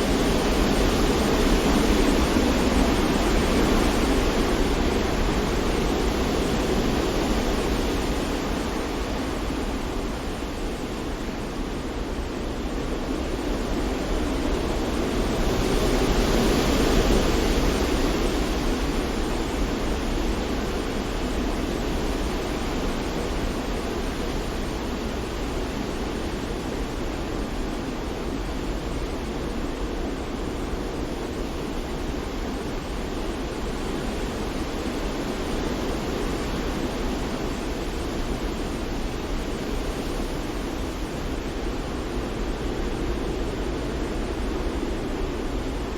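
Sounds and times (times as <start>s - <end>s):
white noise hiss with rumble: 0.0s - 45.9s.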